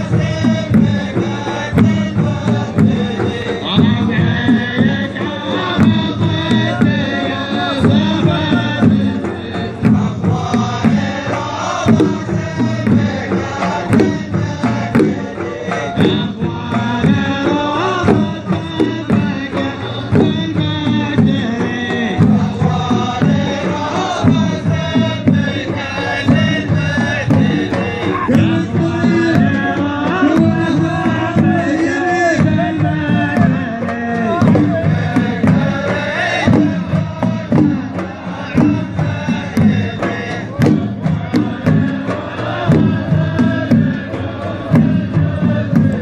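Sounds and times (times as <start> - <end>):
drum beats: 0.0 - 46.0
men chanting in unison: 0.0 - 46.0.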